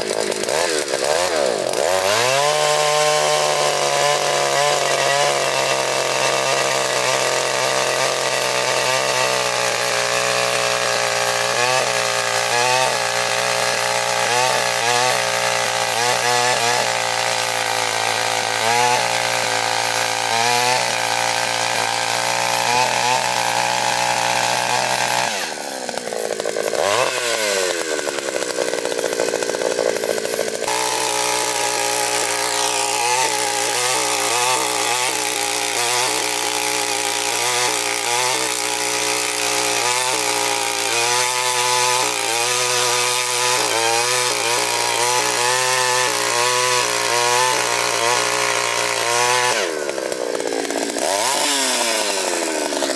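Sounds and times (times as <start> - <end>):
earth auger engine boring soil: 0.0 - 52.9.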